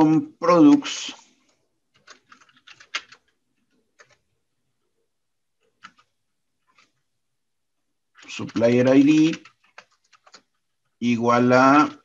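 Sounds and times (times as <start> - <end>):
keyboard typing: 0.5 - 5.0, 5.6 - 7.1, 8.1 - 12.0.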